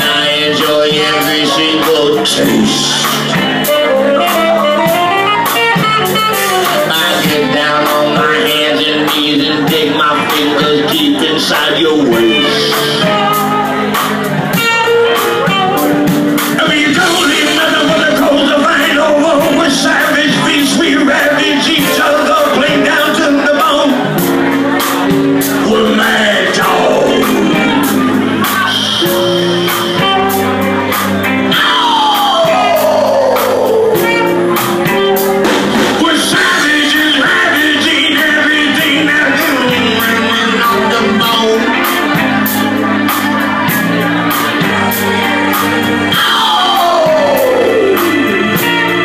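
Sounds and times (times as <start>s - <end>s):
blues-soul band music: 0.0s - 49.0s
electric guitar held notes: 0.0s - 49.0s.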